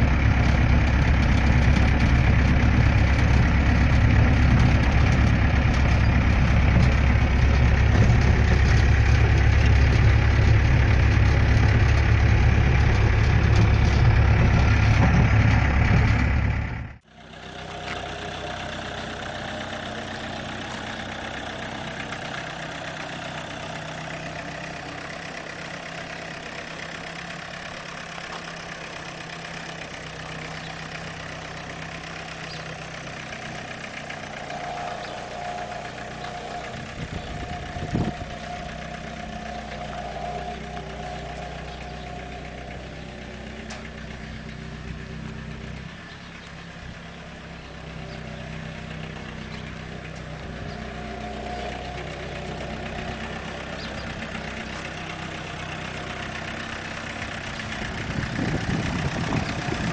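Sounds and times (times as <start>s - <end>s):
diesel truck engine rumbling: 0.0s - 59.9s
quieter steady engine: 0.0s - 59.9s.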